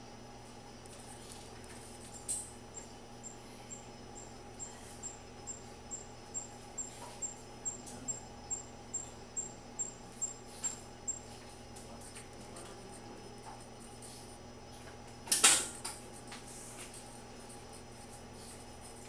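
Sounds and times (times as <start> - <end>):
low steady hum: 0.0 - 19.0
insect chirping: 0.7 - 16.2.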